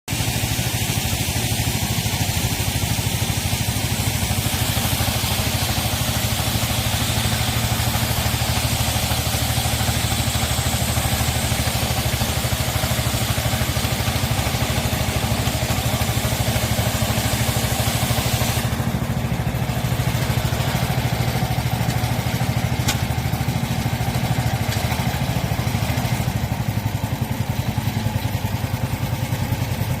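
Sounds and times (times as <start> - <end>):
fan blowing spray hiss: 0.1 - 30.0
sprayer engine running: 0.1 - 30.0.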